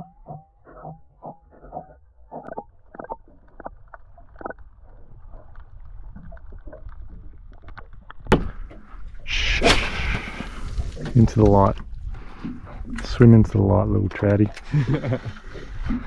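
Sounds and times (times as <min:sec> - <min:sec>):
muffled underwater clicks and knocks: 0:00.0 - 0:09.2, 0:10.7 - 0:16.0
water splashing: 0:00.0 - 0:16.0.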